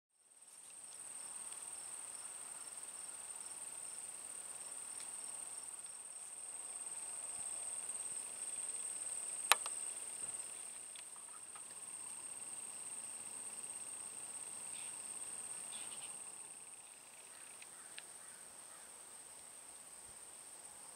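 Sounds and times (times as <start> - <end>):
insect chirping: 0.2 - 20.9
insects trilling: 0.2 - 20.9.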